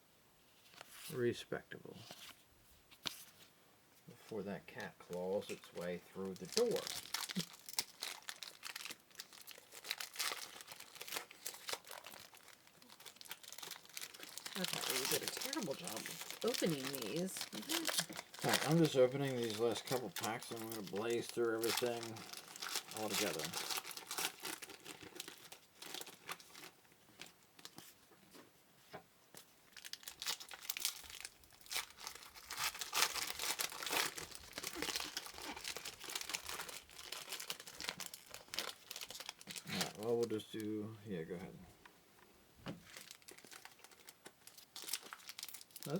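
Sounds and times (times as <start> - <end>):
card pack wrappers crinkling: 4.3 - 27.9, 29.3 - 40.7, 42.8 - 45.9.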